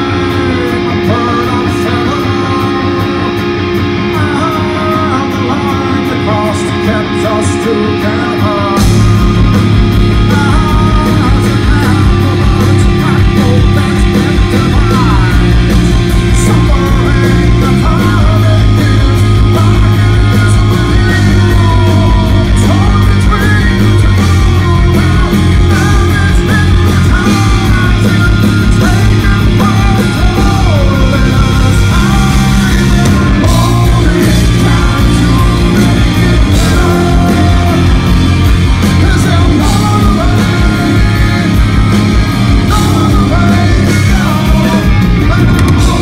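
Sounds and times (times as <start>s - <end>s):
bass guitar: 0.0s - 46.0s
distorted electric guitar: 0.0s - 46.0s
drums: 0.0s - 46.0s
man singing: 0.0s - 46.0s.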